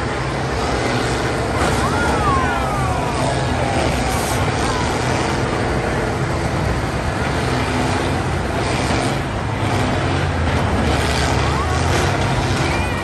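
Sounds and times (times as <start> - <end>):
diesel engines running hard: 0.0 - 13.0.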